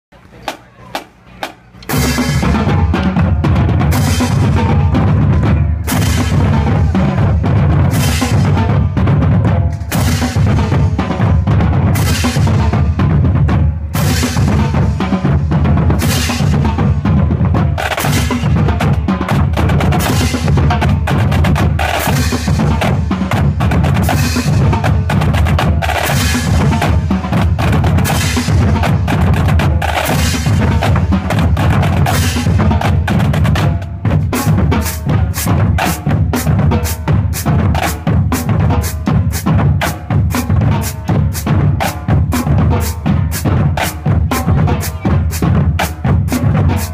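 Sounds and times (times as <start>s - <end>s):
drumline playing: 0.1s - 46.9s.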